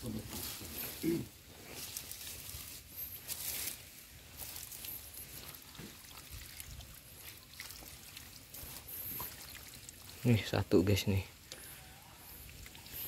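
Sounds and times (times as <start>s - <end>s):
pond water splashing and trickling: 0.0s - 13.0s.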